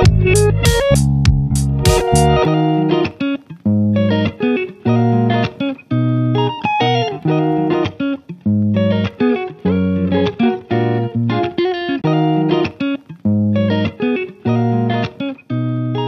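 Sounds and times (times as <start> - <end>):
plucked guitar tune: 0.0 - 16.0.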